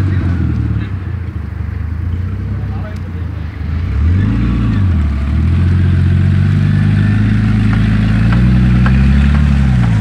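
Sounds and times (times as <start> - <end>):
engine running under load: 0.0 - 10.0.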